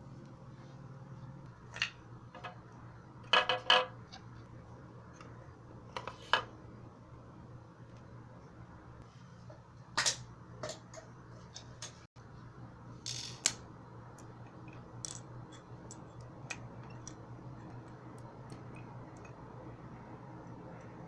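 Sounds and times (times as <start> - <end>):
microwave fan motor humming: 3.9 - 21.0.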